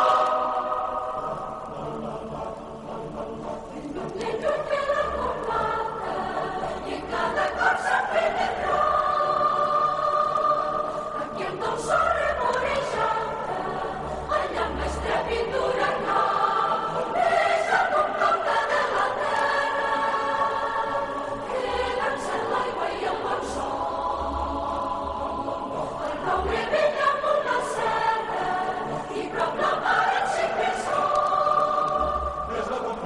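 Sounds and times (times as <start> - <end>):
choir singing: 0.0 - 33.0.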